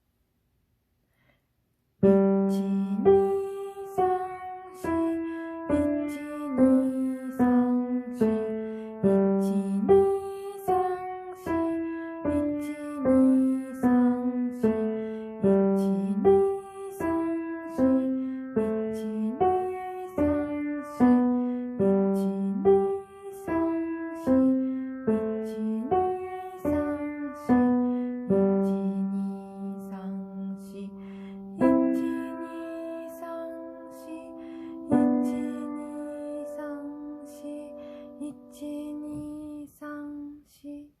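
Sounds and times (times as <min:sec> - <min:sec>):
piano melody: 0:02.0 - 0:39.5.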